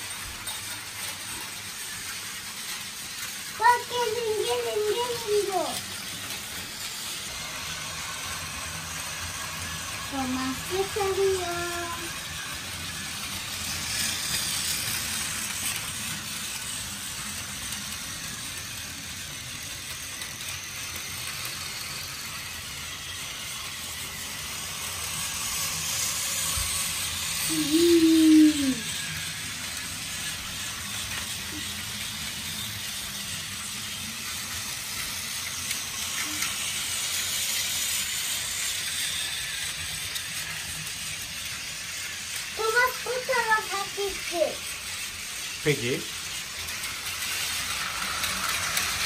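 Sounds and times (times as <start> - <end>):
toy train motors whirring: 0.0 - 49.0.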